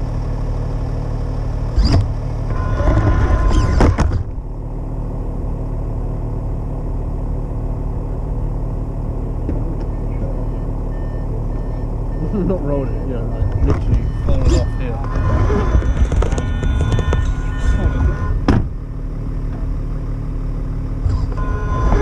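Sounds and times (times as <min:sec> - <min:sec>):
electric motor and gears whining: 0:00.0 - 0:22.0
steady low hum: 0:00.0 - 0:22.0.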